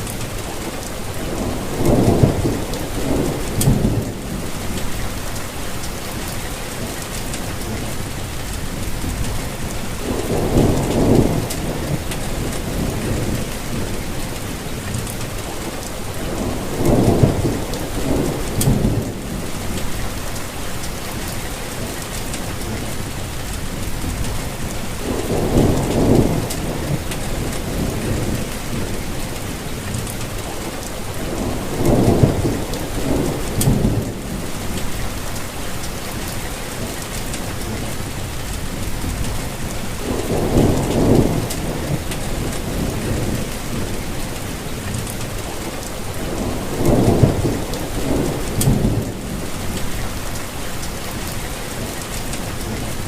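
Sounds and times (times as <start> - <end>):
low thunder rumbles: 0.0 - 6.3, 7.5 - 21.4, 22.5 - 36.4, 37.5 - 53.0
steady rainfall: 0.0 - 53.0.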